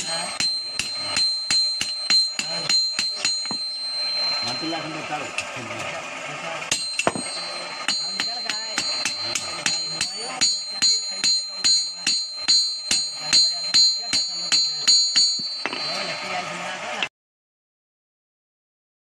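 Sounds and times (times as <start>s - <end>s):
hammer striking metal on anvil: 0.0s - 5.9s, 6.7s - 17.1s.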